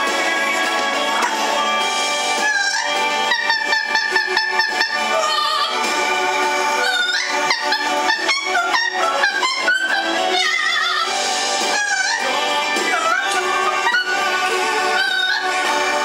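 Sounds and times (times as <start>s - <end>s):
background music: 0.0s - 16.0s
parrot calling: 2.1s - 16.0s.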